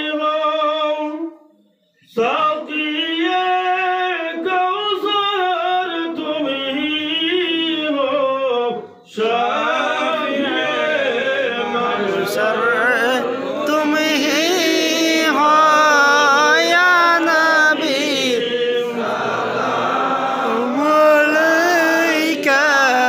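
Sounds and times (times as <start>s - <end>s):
person singing a devotional chant: 0.0s - 23.0s.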